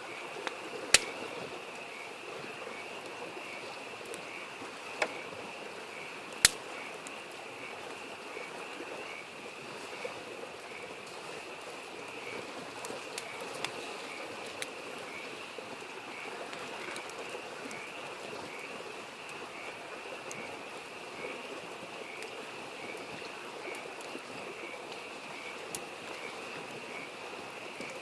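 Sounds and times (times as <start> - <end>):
campfire crackling: 0.0 - 28.0
frogs calling: 0.0 - 28.0
mountain stream babbling: 0.0 - 28.0.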